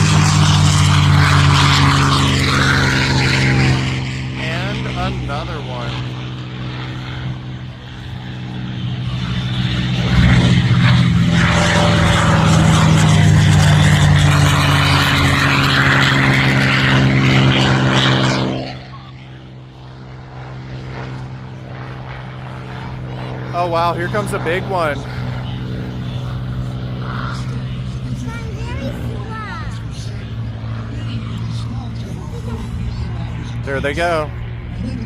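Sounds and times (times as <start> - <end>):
propeller airplane flying past: 0.0 - 35.0.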